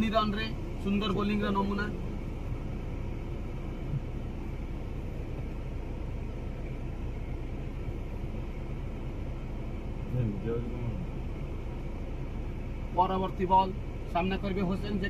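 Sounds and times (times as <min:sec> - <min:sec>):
low rumble and hiss outdoors: 0:00.0 - 0:15.0.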